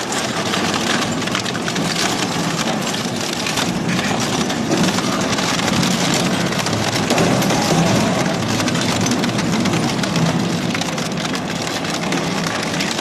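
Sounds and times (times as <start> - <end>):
metal cracking and snapping: 0.0 - 13.0.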